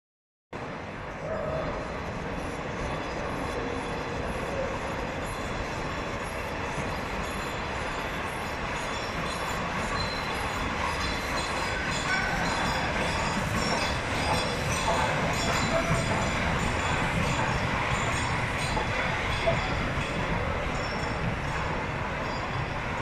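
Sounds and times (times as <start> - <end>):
train wheels rumbling on rails: 0.6 - 23.0.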